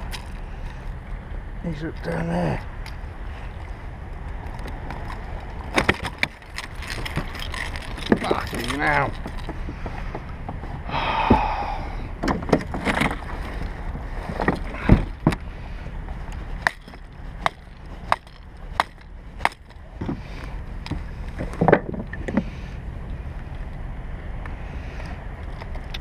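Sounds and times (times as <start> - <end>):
water: 0.0 - 26.0
wind: 0.0 - 26.0.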